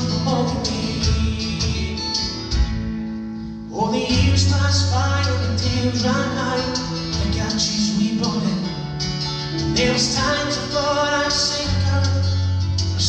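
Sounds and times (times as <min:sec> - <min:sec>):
acoustic guitar strumming: 0:00.0 - 0:13.0
folk band playing: 0:00.0 - 0:13.0
low bass notes: 0:00.0 - 0:13.0.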